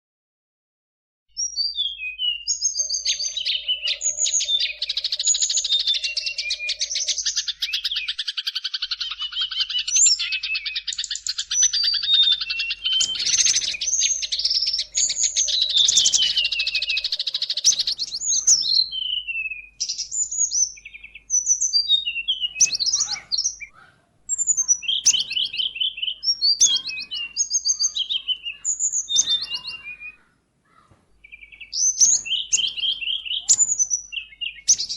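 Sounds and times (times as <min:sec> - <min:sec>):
songbirds chirping and trilling: 0:01.3 - 0:34.9.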